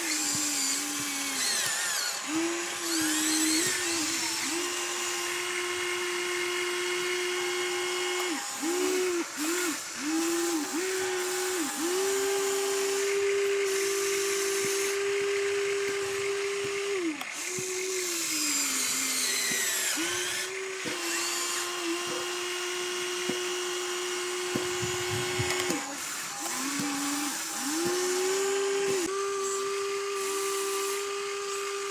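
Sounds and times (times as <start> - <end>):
electric motors whining: 0.0 - 31.9.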